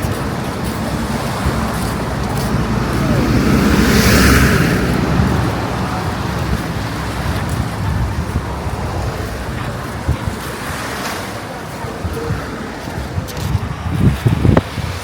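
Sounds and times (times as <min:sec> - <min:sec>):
road vehicle passing: 0:00.0 - 0:15.0
steady background rush: 0:00.0 - 0:15.0.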